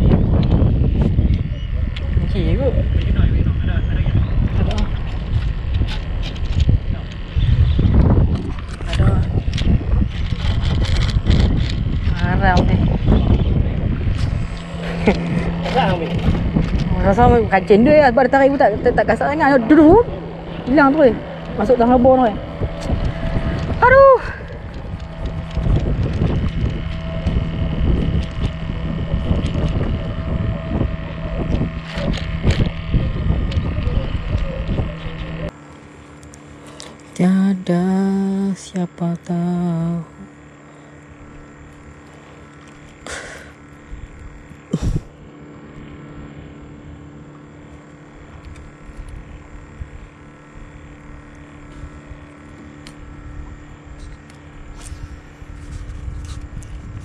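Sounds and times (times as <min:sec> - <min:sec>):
wind rumbling on microphone: 0:00.0 - 0:35.5, 0:43.6 - 0:45.1, 0:45.8 - 0:57.0
boat engine humming: 0:00.0 - 0:57.0.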